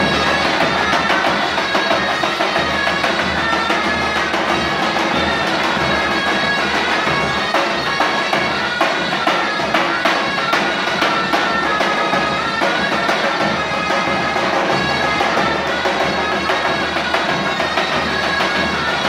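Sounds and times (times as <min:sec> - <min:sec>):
drum strokes: 0:00.0 - 0:19.0
shawms playing folk dance tune: 0:00.0 - 0:19.0.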